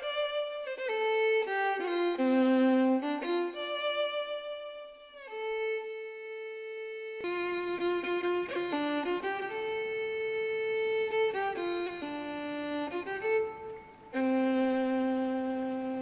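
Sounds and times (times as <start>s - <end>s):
bowed violin slow melody: 0.0s - 16.0s.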